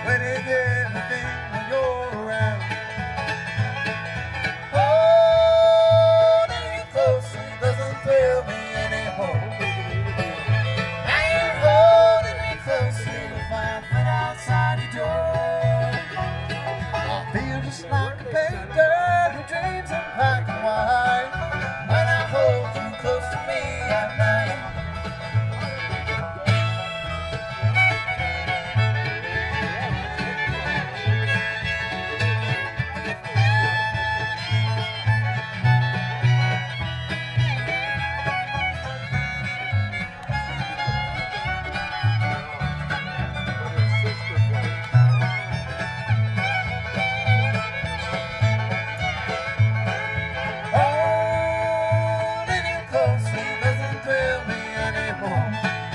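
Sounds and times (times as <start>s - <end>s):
banjo: 0.0s - 55.9s
fiddle sliding notes: 0.0s - 55.9s
guitar: 0.0s - 55.9s.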